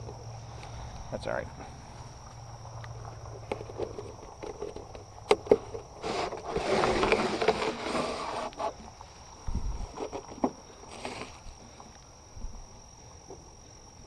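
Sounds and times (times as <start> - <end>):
cricket trill: 0.0 - 14.0
rustling and crackling vegetation: 0.0 - 14.0.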